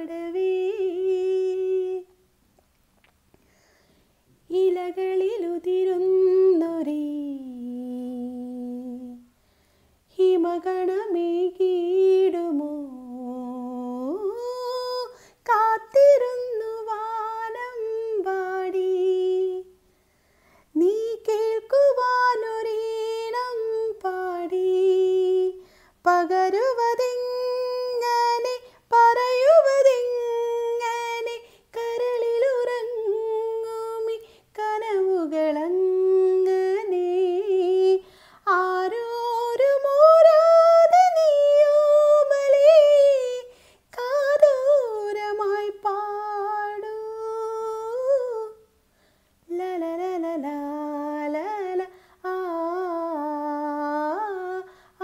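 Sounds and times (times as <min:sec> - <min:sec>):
woman singing wordless melody: 0:00.0 - 0:02.3, 0:04.4 - 0:09.4, 0:10.1 - 0:19.8, 0:20.7 - 0:48.8, 0:49.4 - 0:55.0.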